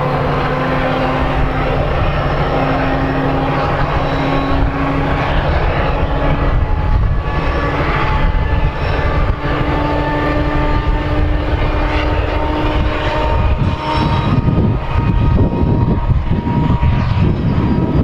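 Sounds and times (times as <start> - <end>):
diesel locomotive engine drone: 0.0 - 18.0
high steady whines: 0.0 - 18.0.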